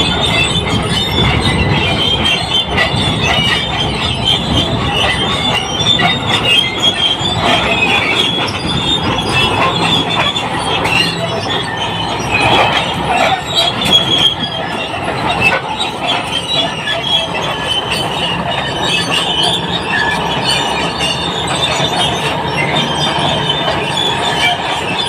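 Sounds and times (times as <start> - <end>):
diesel engine running: 0.0 - 25.0
steel tracks squealing and clanking: 0.0 - 25.0.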